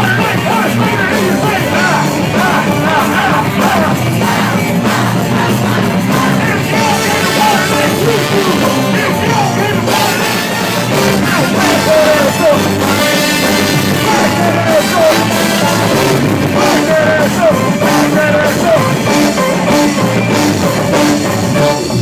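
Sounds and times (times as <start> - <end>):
live band playing dance music: 0.0 - 22.0
sliding melody line: 0.0 - 22.0.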